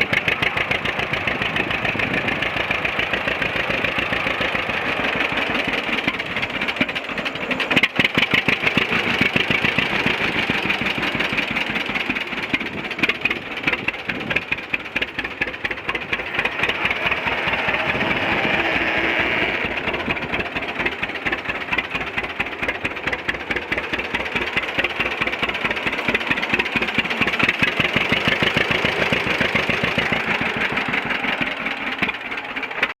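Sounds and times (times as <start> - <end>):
tractor engine putting: 0.0 - 33.0.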